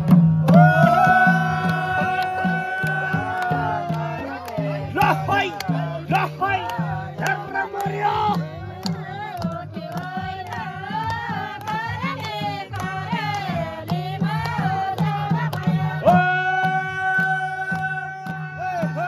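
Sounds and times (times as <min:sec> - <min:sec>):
hand claps: 0:00.0 - 0:19.0
women singing folk song: 0:00.5 - 0:19.0.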